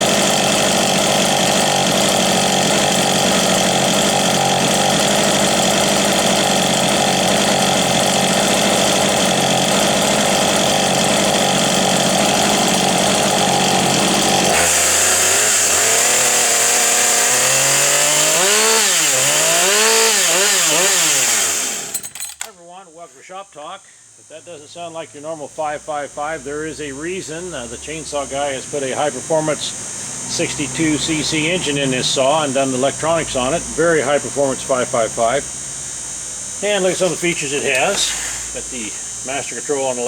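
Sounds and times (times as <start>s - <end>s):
chainsaw running at high speed: 0.0s - 22.5s, 27.4s - 40.0s.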